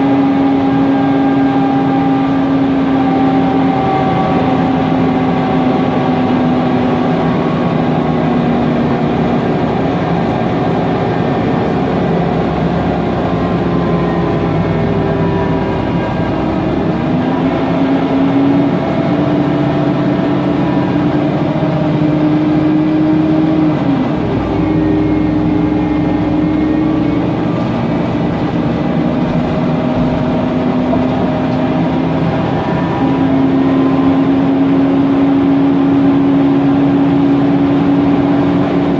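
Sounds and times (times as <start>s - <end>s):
gearbox whine: 0.0s - 35.0s
bus engine running: 0.0s - 38.9s.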